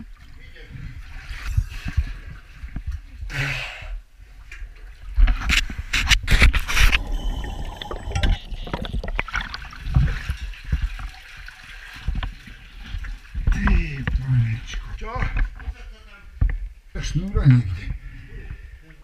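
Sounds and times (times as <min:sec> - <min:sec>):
water splashing and sloshing: 0:00.0 - 0:03.3, 0:04.0 - 0:16.8.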